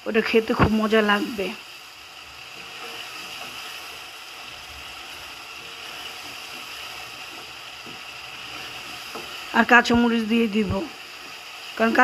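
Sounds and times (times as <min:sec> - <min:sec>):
curry paste sizzling in oil: 0:00.0 - 0:12.0.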